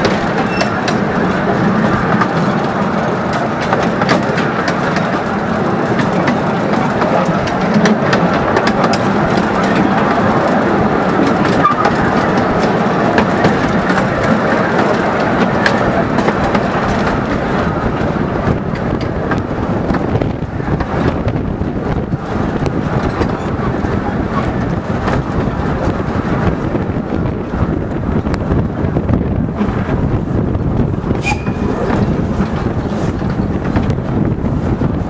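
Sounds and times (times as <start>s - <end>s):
carriage wheels rumbling on rails: 0.0s - 35.0s.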